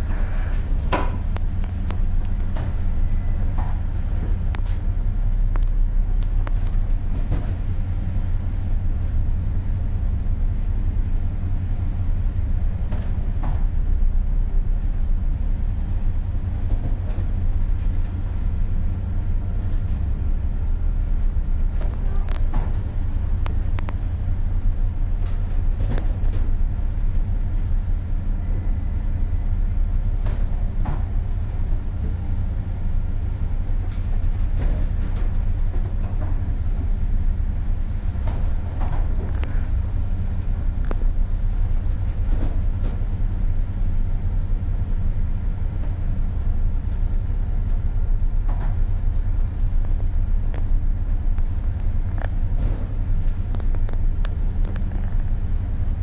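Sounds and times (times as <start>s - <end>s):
heavy low ship rumble: 0.0s - 56.0s.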